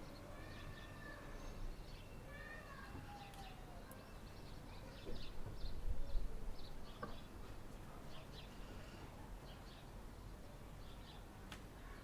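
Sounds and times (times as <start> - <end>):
distant bird chirps: 0.0 - 9.9.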